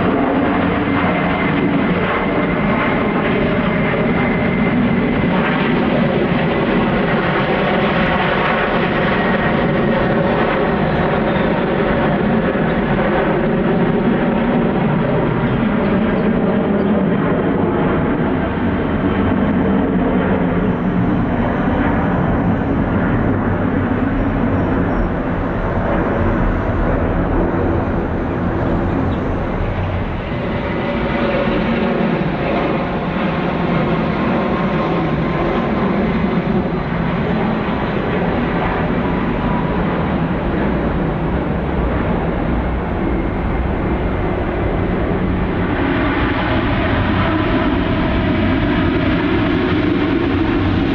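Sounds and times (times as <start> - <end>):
jet engines rumbling: 0.0 - 50.9.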